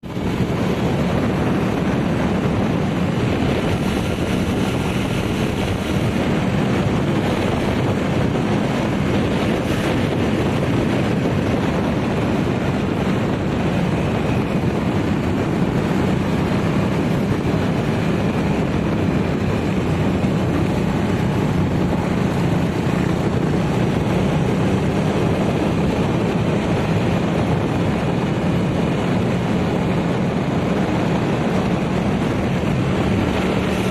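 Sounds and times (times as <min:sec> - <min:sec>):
motorcycle engine cruising: 0:00.0 - 0:33.9
wind rushing over microphone: 0:00.0 - 0:33.9.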